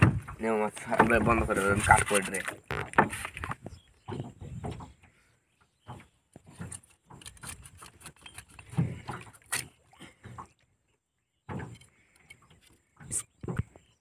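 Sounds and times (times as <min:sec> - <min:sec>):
knocks taps and clicks on wooden boat: 0:00.0 - 0:10.6, 0:11.4 - 0:14.0.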